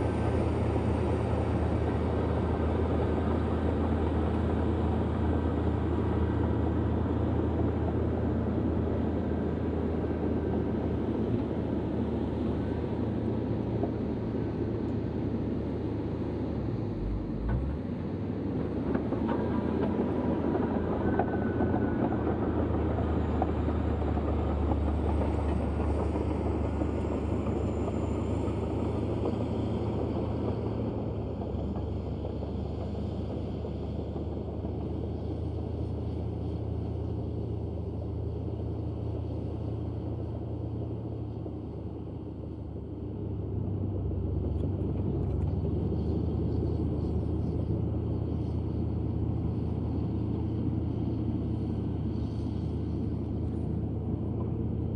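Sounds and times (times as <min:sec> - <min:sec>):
bulldozer diesel engine droning: 0:00.0 - 0:54.9.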